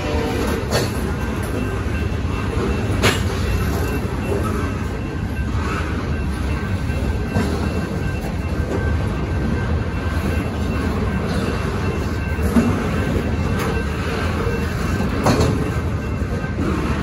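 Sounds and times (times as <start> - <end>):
crossing bell ringing: 0.0 - 17.0
train cars clanking: 0.0 - 17.0
train wheels rumbling on rails: 0.0 - 17.0.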